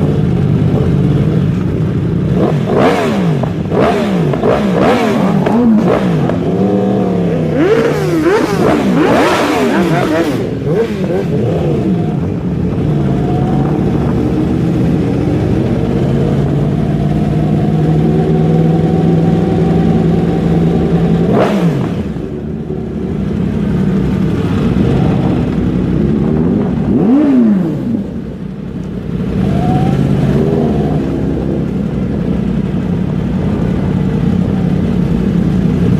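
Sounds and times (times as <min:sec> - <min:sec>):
vehicle engines running loud: 0:00.0 - 0:35.9
engine revving: 0:02.2 - 0:34.5.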